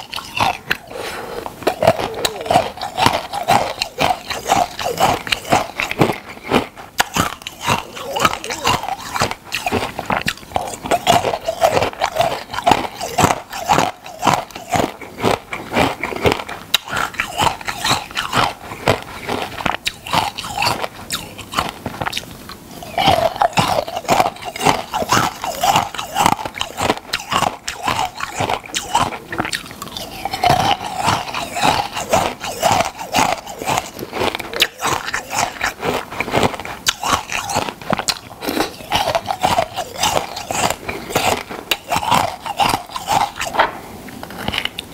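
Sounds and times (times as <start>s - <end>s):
crunchy food chewing: 0.0s - 44.9s.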